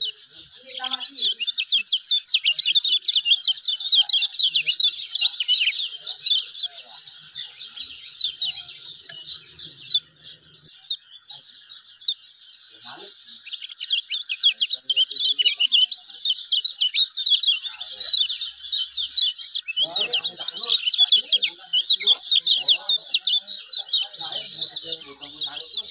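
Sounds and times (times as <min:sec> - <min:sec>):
bird singing high chirps: 0:00.0 - 0:25.9.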